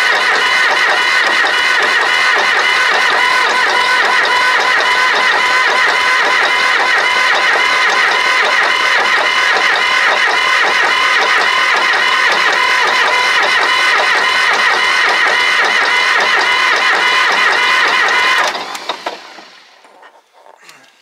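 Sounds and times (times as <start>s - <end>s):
starter motor cranking diesel engine: 0.0s - 21.0s.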